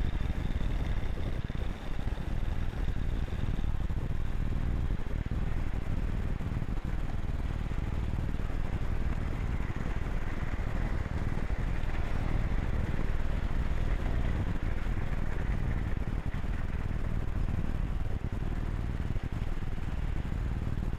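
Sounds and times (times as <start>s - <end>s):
wheel rumble and clatter: 0.0s - 20.9s.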